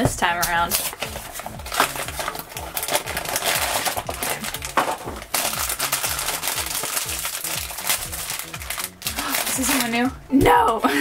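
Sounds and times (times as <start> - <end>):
foil bag crinkling: 0.4 - 10.9.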